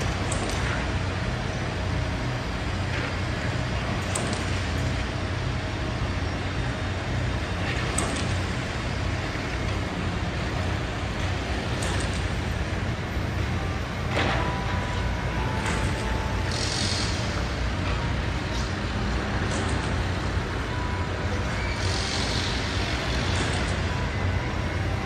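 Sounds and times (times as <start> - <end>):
road noise: 0.0 - 25.0.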